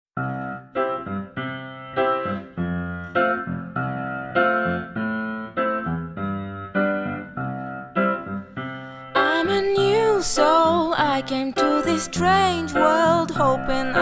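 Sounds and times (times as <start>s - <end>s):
piano chords: 0.2s - 14.0s.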